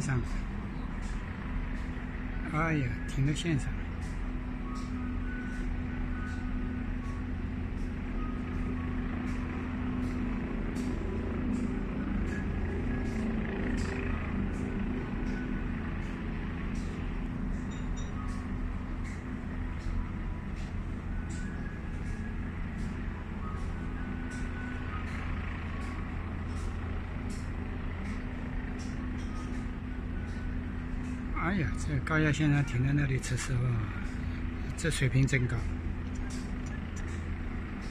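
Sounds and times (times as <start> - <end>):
low engine rumble: 0.0 - 37.9.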